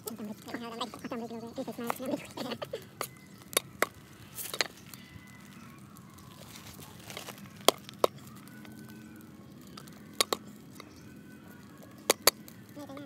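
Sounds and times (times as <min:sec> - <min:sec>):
garlic skins crackling: 0:00.0 - 0:13.0.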